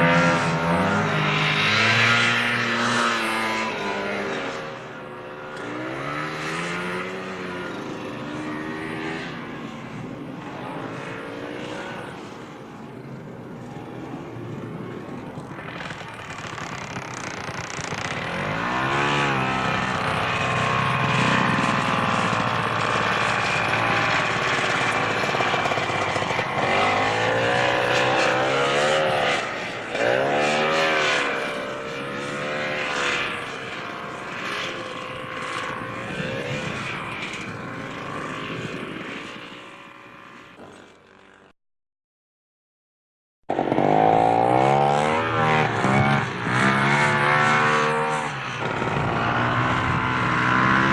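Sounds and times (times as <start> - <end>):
atv engine revving: 0.0 - 9.8, 13.7 - 39.1, 43.5 - 50.9.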